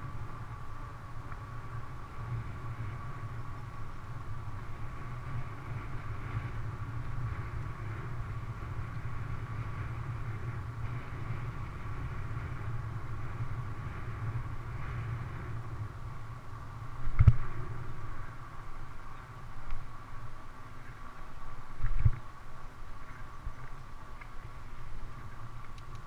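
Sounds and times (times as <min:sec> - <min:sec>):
bicycle tyres rolling on asphalt: 0:00.0 - 0:26.0
faint high whine: 0:00.0 - 0:26.0
wind on microphone: 0:00.0 - 0:26.0.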